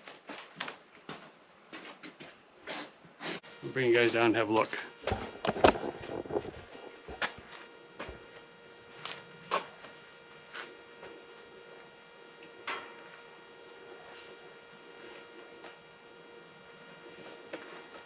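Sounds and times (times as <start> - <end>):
faint steady hum: 0.7 - 18.0.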